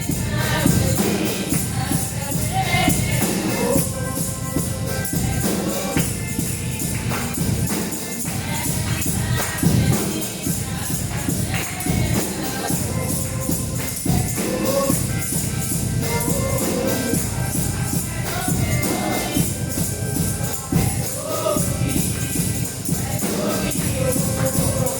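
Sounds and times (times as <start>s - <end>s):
choir and congregation singing: 0.0s - 24.9s
tambourine shaken: 0.0s - 24.9s.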